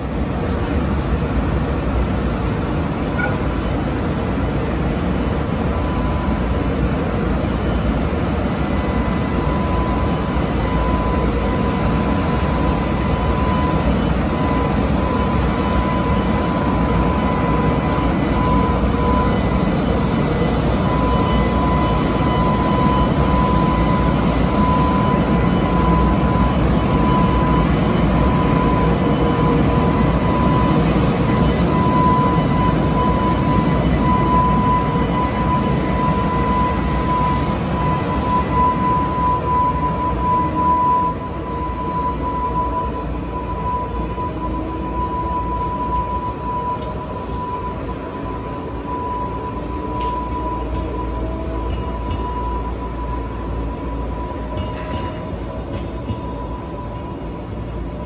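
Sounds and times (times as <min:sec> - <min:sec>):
freight train rumbling past: 0:00.0 - 0:58.0
steady high hum: 0:00.0 - 0:58.0.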